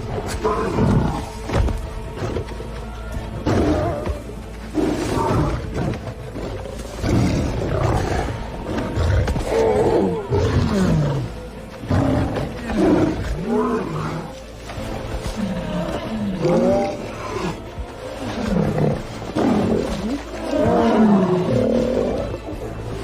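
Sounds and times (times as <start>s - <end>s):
lion roaring and snarling: 0.0s - 2.4s, 3.4s - 23.0s.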